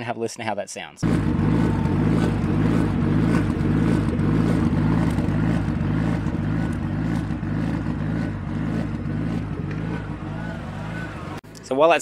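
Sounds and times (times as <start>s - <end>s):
car engine idling lumpily: 1.0s - 12.0s.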